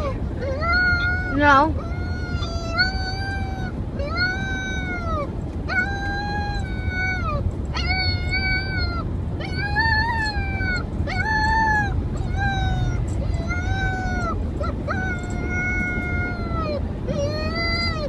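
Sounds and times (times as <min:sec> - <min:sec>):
puppy howling: 0:00.0 - 0:18.0
steady low rumble: 0:00.0 - 0:18.0.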